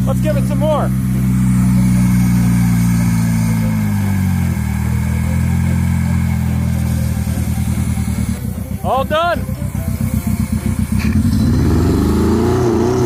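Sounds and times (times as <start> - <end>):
car engine idling unevenly: 0.0 - 13.0.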